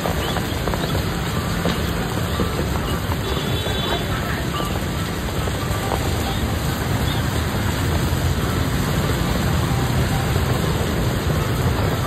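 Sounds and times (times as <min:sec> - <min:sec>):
rain falling on wet street: 0:00.0 - 0:12.0.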